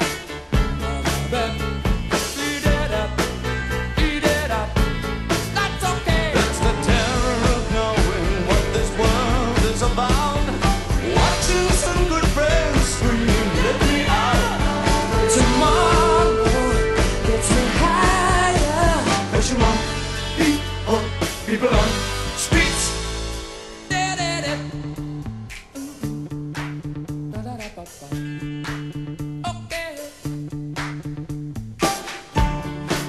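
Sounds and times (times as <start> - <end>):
rock song with singing: 0.0 - 30.5.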